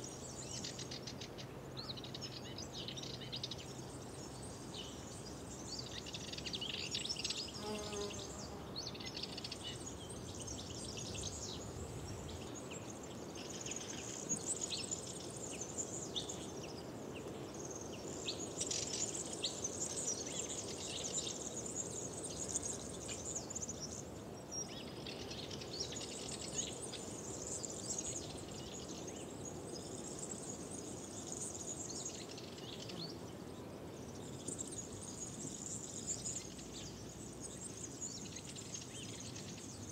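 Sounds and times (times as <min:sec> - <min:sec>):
faint steady hiss: 0:00.0 - 0:39.9
songbirds singing and chirping: 0:00.0 - 0:39.9.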